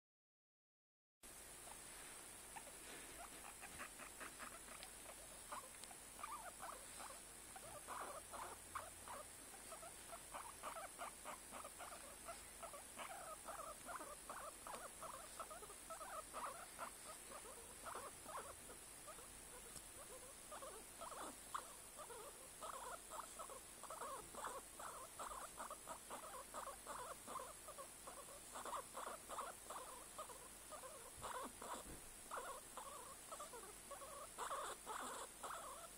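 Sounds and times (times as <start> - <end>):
guinea pig squeaking: 2.5 - 35.9.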